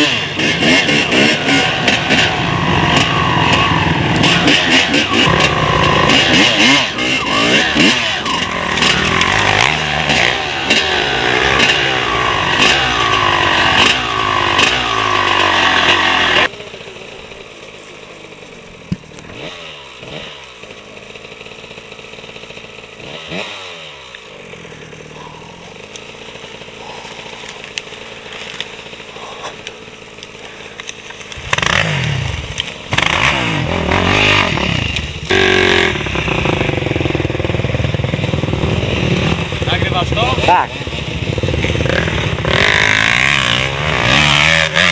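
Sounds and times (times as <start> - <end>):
distant bikes passing: 0.0 - 44.9
motocross bikes revving: 0.0 - 44.9.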